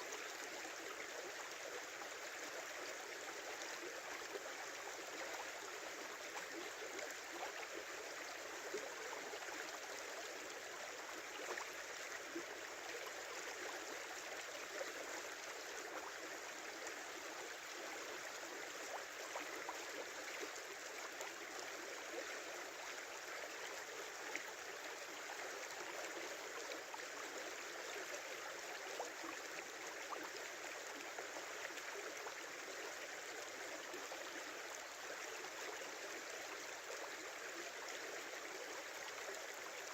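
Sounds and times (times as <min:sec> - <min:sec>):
small river babbling: 0:00.0 - 0:39.9.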